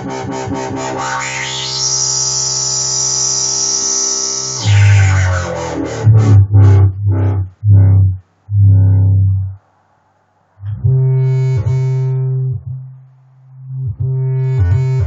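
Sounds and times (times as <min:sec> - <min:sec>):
deep chopped synth bass: 0:00.0 - 0:09.6, 0:10.7 - 0:13.1, 0:13.7 - 0:15.0.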